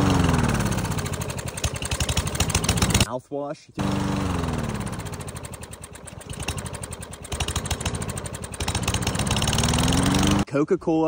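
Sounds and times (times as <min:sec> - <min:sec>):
lawn mower engine running: 0:00.0 - 0:03.1, 0:03.8 - 0:10.4.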